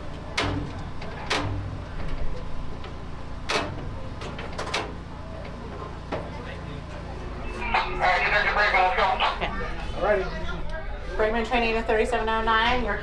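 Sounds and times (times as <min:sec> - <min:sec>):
locomotive idling rumble: 0:00.0 - 0:13.0.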